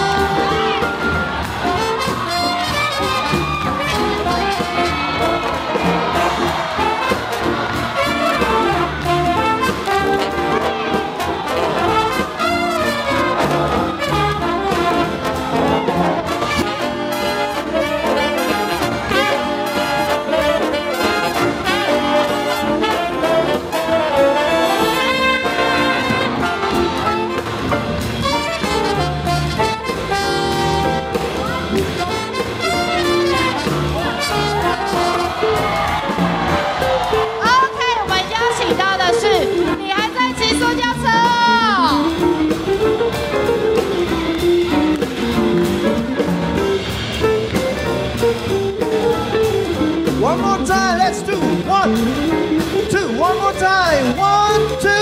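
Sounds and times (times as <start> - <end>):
big band swing jazz: 0.0 - 55.0.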